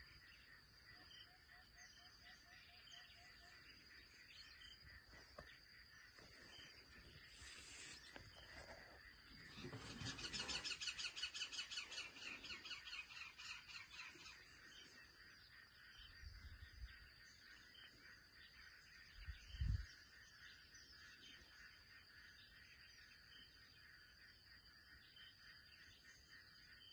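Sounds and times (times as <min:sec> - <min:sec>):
insect drone: 0:00.0 - 0:26.9
wild birds chirping: 0:00.0 - 0:26.9.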